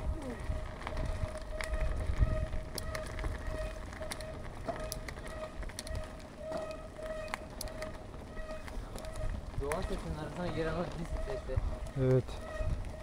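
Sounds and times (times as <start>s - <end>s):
bike clicks and rattles: 0.0s - 13.0s
bike tyres rolling on concrete: 0.0s - 13.0s.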